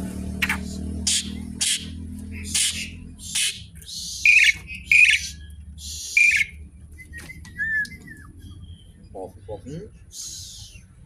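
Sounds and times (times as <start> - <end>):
harsh scratchy bird calls: 0.1 - 11.0
thin whistled bird notes: 0.4 - 9.0, 10.1 - 10.9.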